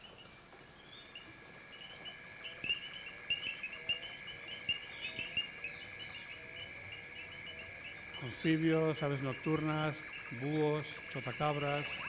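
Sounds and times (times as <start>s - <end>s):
high-pitched trilling of frogs and insects: 0.0s - 12.0s.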